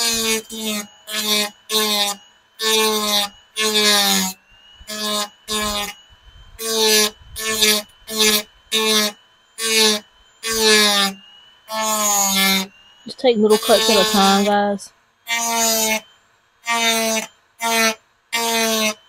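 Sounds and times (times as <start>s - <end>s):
rotary tool cutting: 0.0s - 19.0s
rotary tool motor whining: 0.0s - 19.0s.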